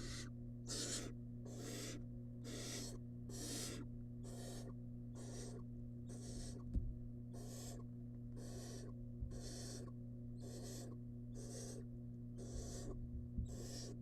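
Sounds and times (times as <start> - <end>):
owl chick hissing begging call: 0.0 - 6.6, 7.4 - 7.8, 8.4 - 14.0
electrical hum: 0.0 - 14.0.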